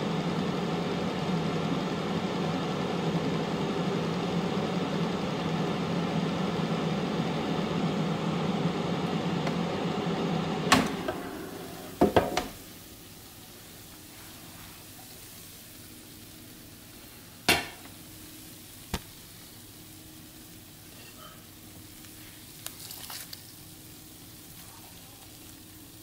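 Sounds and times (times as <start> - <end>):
air fryer fan humming: 0.0 - 26.0.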